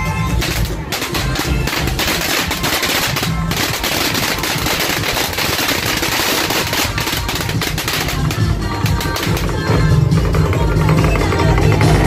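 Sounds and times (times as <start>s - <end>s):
firecrackers rapid bangs: 0.1s - 12.0s.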